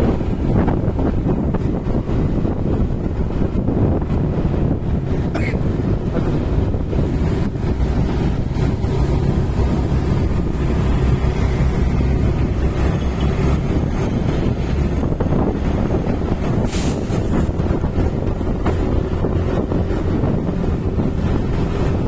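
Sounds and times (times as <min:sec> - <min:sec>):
vehicle engine rumbling: 0:00.0 - 0:22.0
wind buffeting microphone: 0:00.0 - 0:22.0.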